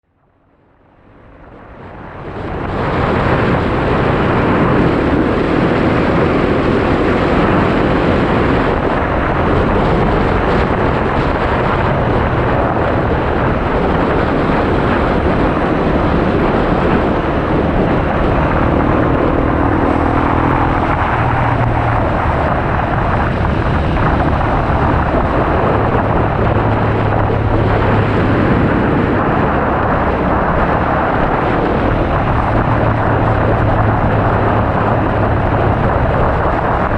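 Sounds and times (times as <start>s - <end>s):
wind rush on microphone: 0.3s - 36.9s
motorcycle engine running: 2.2s - 36.9s.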